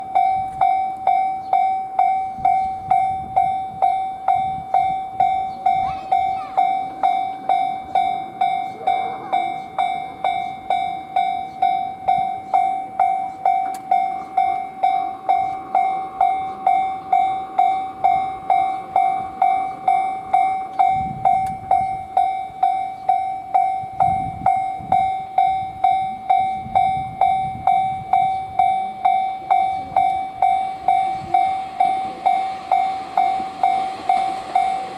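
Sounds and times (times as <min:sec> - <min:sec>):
level crossing bell ringing: 0:00.0 - 0:34.9.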